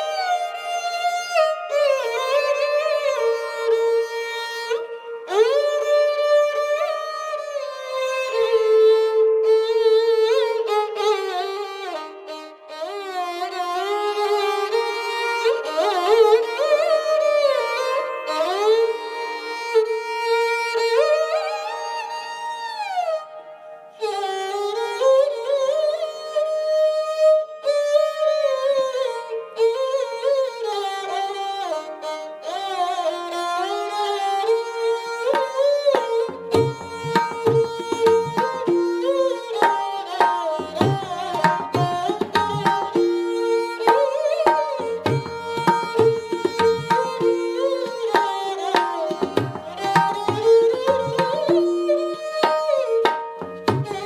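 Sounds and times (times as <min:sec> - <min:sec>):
sliding string melody: 0:00.0 - 0:54.0.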